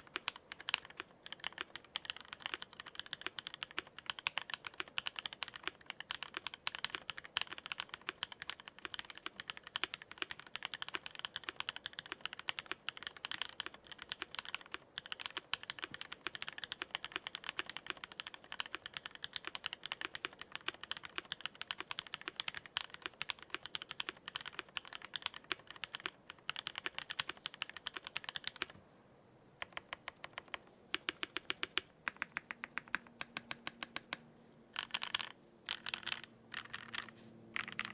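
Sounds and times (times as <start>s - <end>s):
mechanical keyboard typing: 0.0s - 28.7s, 29.6s - 37.9s.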